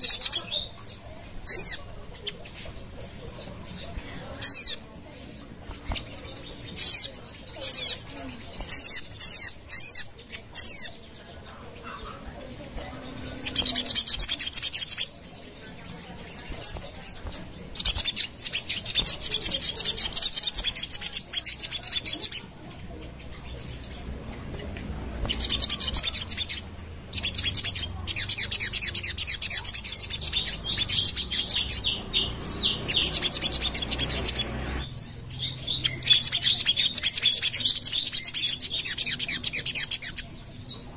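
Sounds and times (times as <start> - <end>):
bird chattering trills: 0.0 - 40.9.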